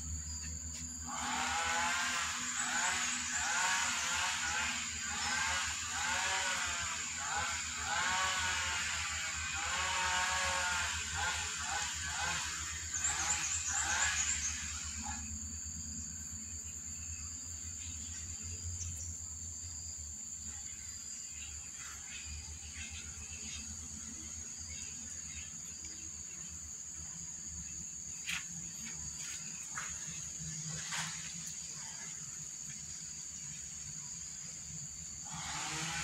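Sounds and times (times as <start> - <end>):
high-pitched insect chirring: 0.0 - 31.2.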